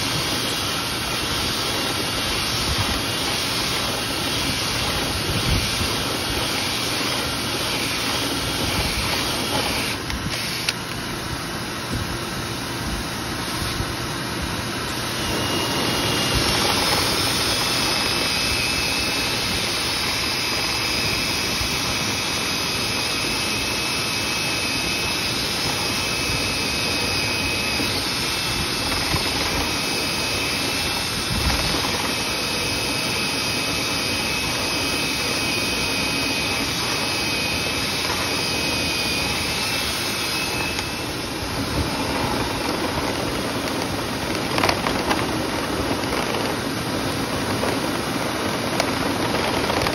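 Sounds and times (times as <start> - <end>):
drill motor whine: 0.0 - 49.9.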